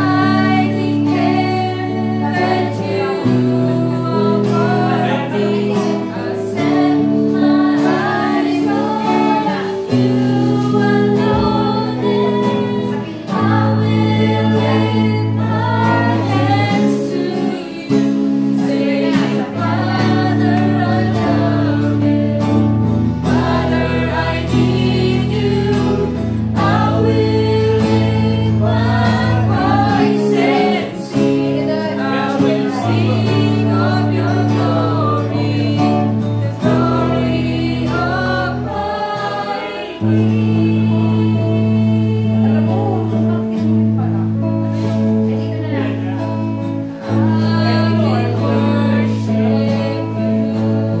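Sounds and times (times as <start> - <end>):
women singing together: 0.0 - 43.9, 44.7 - 51.0
strummed acoustic guitar: 0.0 - 51.0.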